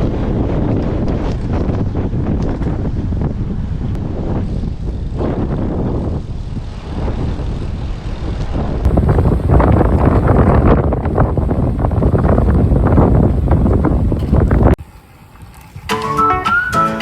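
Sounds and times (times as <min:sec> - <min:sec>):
wind buffeting microphone: 0:00.0 - 0:16.7.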